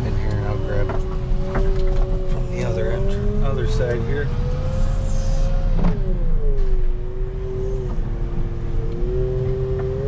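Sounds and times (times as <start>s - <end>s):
diesel engine running: 0.0s - 9.2s
engine whine: 0.0s - 10.0s.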